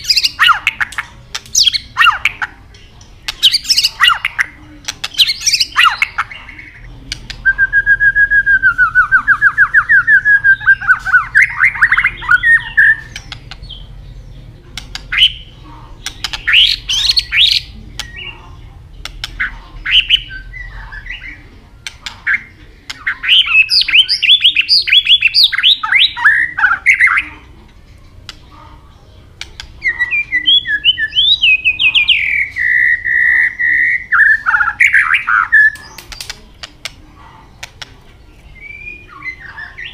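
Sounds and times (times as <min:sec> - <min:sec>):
bird singing fast repeated notes: 0:00.0 - 0:39.9.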